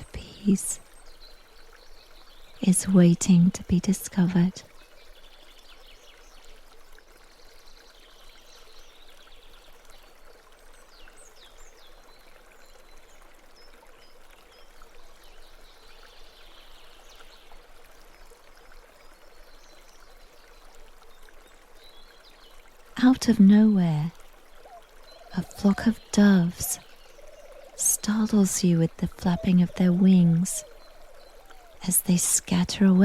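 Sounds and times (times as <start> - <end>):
stream water trickling: 0.0 - 33.0.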